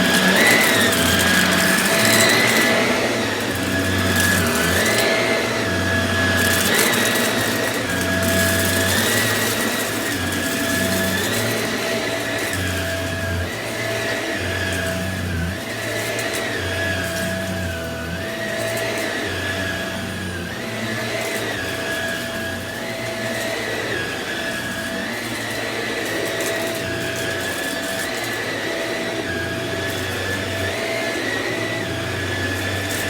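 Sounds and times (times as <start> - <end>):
upright vacuum cleaner running: 0.0 - 33.0.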